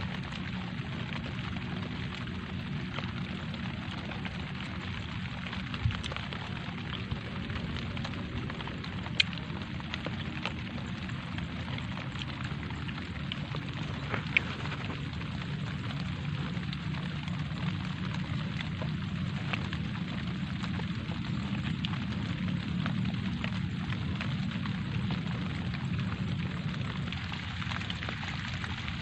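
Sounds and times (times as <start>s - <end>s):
light rain on leaves and puddles: 0.0s - 29.0s
sharp close raindrops: 0.0s - 29.0s.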